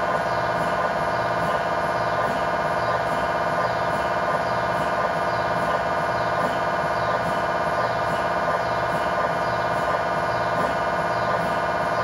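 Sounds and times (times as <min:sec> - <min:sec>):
mri scanner electronic drone: 0:00.0 - 0:12.0.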